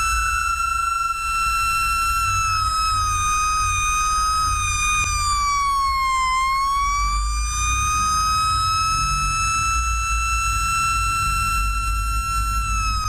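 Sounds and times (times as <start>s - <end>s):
fire engine siren: 0.0s - 13.0s.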